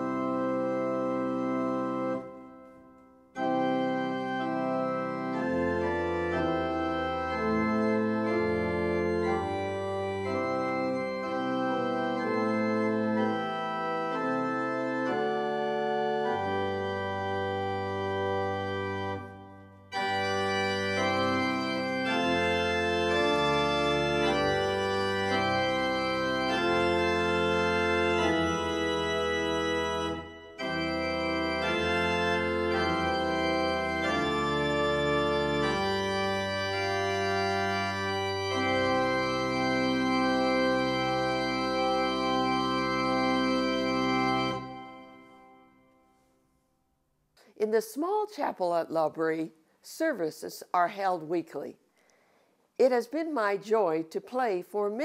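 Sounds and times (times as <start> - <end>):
pipe organ playing held chords: 0.0 - 45.8.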